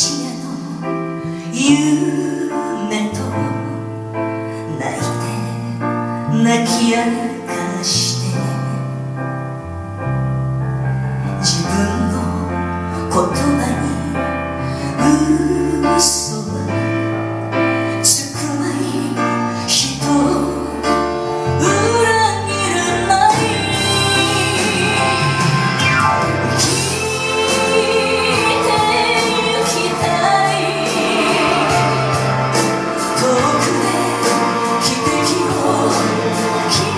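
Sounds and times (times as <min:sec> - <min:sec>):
woman singing a ballad: 0:00.0 - 0:09.1, 0:11.4 - 0:17.1, 0:17.9 - 0:25.8, 0:26.5 - 0:36.9
piano and band accompaniment: 0:00.0 - 0:36.9.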